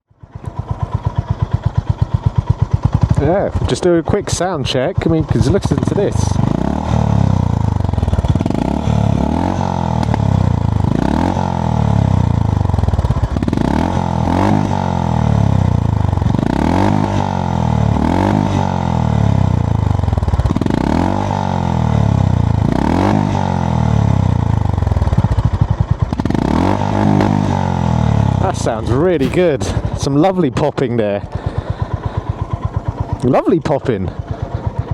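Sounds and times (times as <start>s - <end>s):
motorcycle engine revving: 0.1s - 34.9s
exhaust popping: 0.4s - 21.2s, 24.2s - 34.9s.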